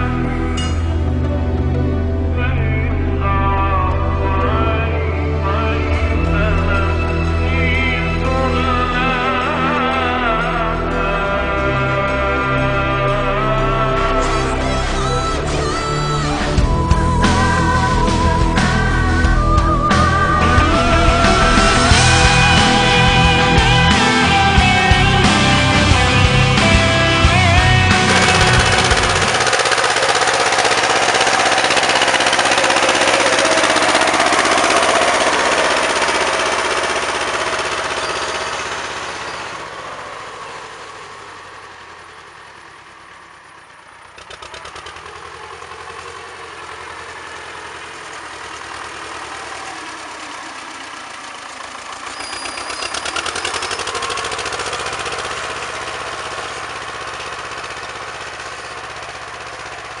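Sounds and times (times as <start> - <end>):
nearer engine beat: 0.0 - 60.0
tractor diesel engine running: 0.0 - 60.0.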